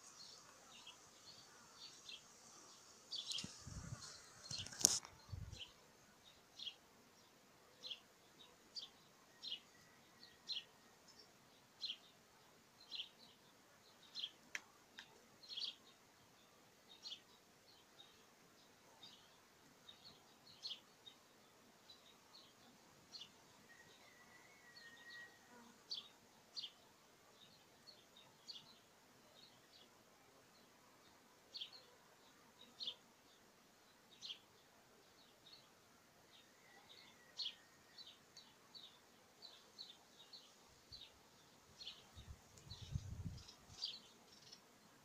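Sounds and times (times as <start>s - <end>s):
outdoor background noise: 0.0s - 45.0s.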